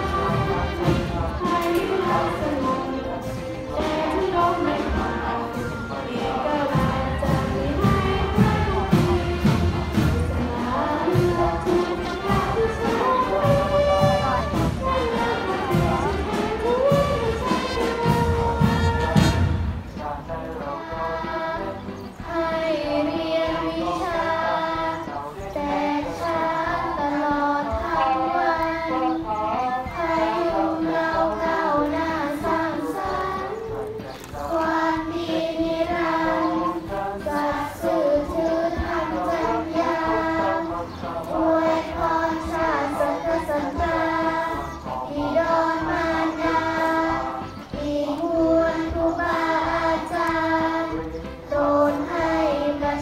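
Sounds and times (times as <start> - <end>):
children singing: 0.0 - 53.0.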